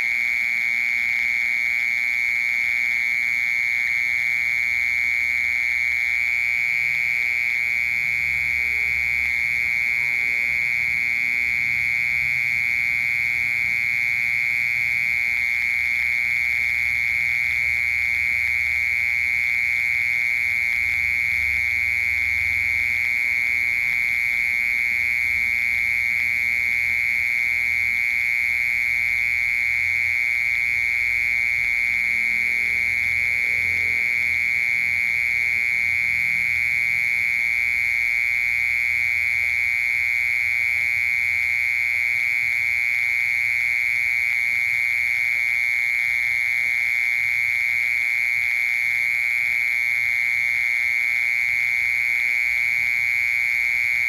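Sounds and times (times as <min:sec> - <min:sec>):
mole cricket trilling: 0:00.0 - 0:54.0.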